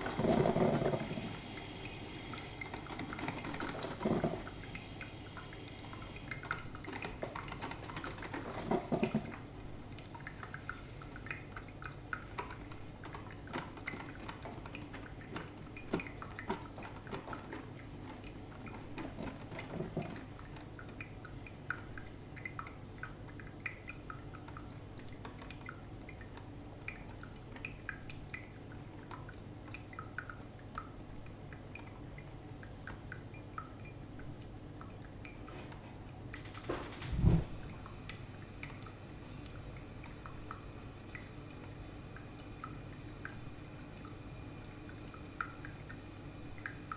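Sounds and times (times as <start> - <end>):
coffee maker gurgling: 0.0 - 46.9
low steady hum: 0.0 - 46.9
water dripping and sputtering: 0.0 - 46.9.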